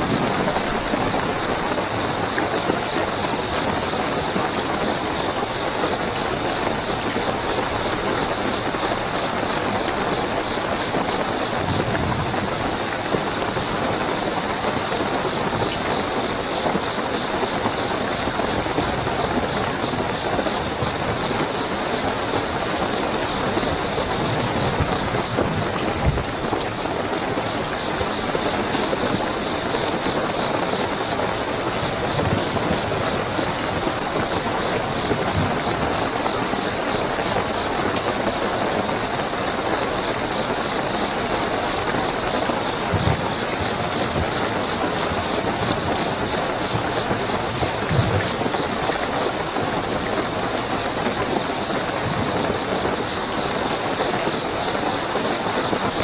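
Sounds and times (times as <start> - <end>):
crickets chirping: 0.0 - 56.0
heavy rain: 0.0 - 56.0.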